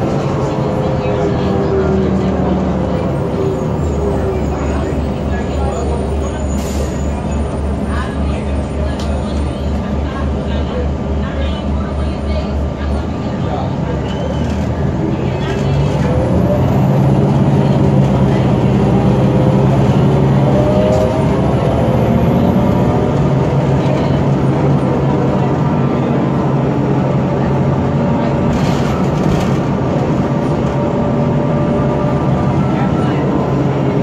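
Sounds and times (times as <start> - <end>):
bus diesel engine under load: 0.0 - 34.0.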